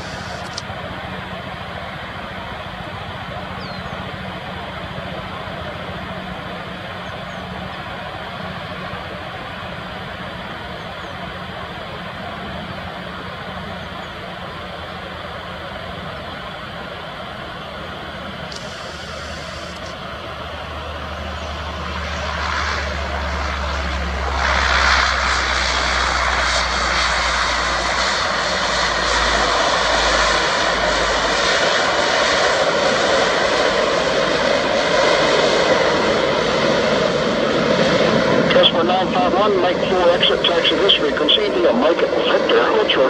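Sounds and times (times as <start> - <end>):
turboprop plane landing: 0.0 - 43.0.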